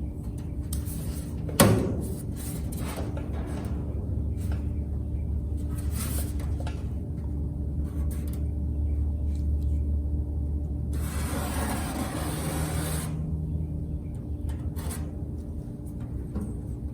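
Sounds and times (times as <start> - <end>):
machine humming: 0.0 - 16.9.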